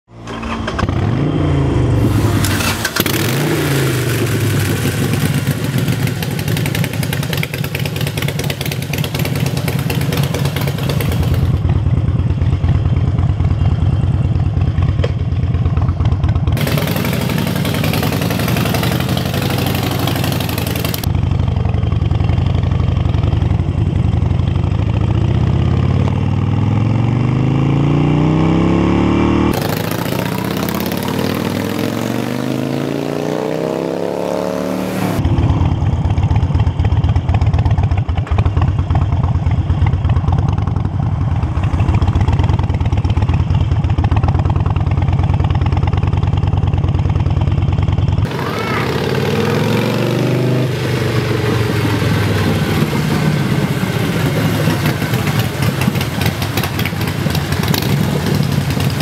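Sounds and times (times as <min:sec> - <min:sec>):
motorcycle engine revving: 0:00.1 - 0:59.0.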